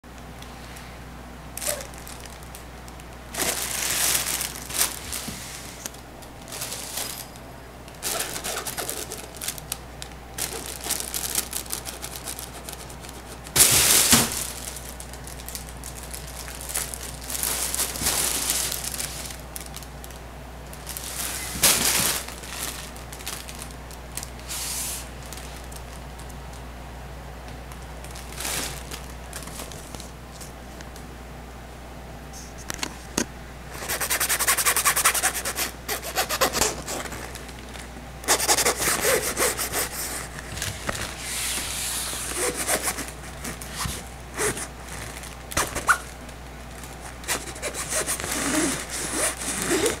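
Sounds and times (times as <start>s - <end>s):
vinyl tunnel crinkling: 1.5s - 26.8s, 27.4s - 31.1s, 32.4s - 50.0s.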